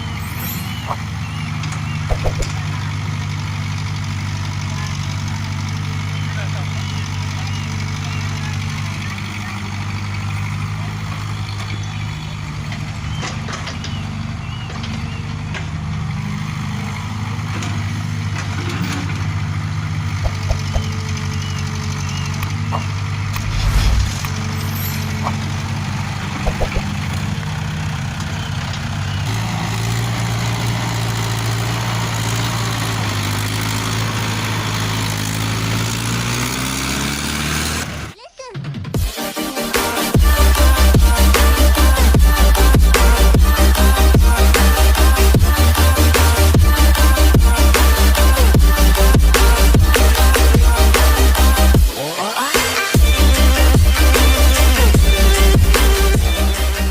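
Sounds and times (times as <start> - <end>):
heavy vehicle engine idling: 0.0 - 38.2, 40.0 - 52.0, 52.8 - 56.9.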